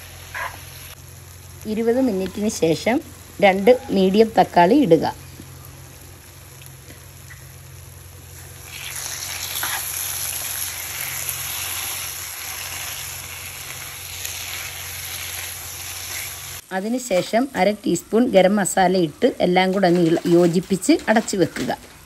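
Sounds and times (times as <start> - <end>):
food sizzling in oil: 0.0 - 21.8.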